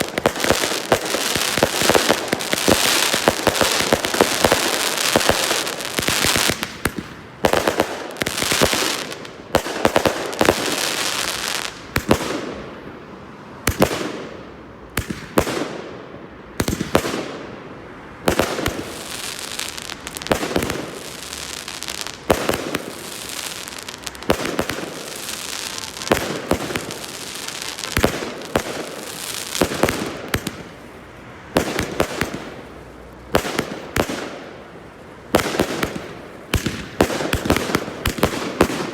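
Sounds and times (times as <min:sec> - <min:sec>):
firework crackling: 0:00.0 - 0:12.6, 0:18.2 - 0:38.9
firework bangs: 0:00.0 - 0:12.8, 0:18.2 - 0:38.9.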